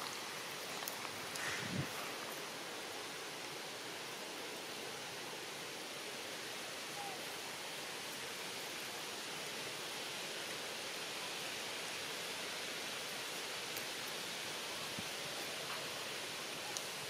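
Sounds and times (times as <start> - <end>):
outdoor ambience hiss: 0.0 - 17.0.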